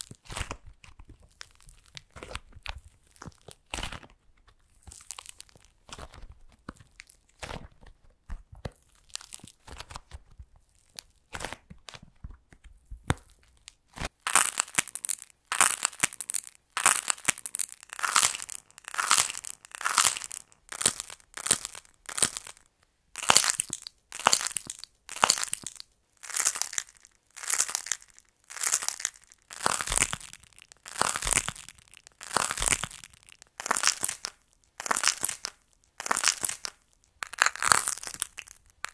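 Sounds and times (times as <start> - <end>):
dry clay crackling and crunching: 0.0 - 38.9.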